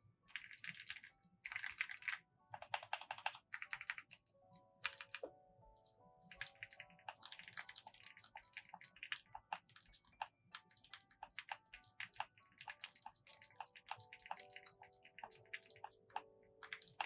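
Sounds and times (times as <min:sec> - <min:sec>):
soft background music: 0:00.0 - 0:17.0
mechanical keyboard typing: 0:00.3 - 0:05.3, 0:06.3 - 0:17.0.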